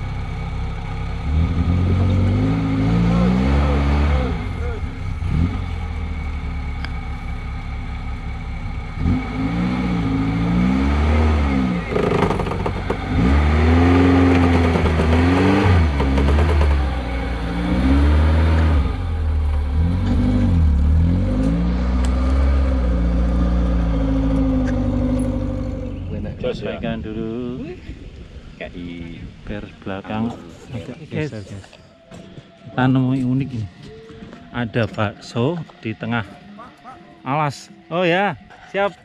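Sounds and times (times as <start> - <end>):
off-road vehicle engine revving: 0.0 - 31.4.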